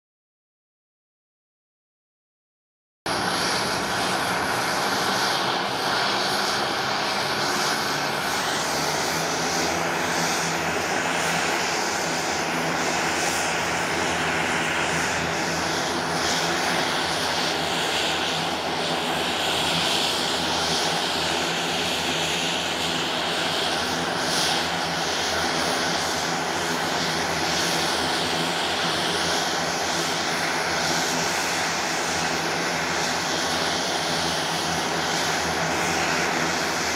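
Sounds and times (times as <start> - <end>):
turboprop engines running: 3.1 - 36.9.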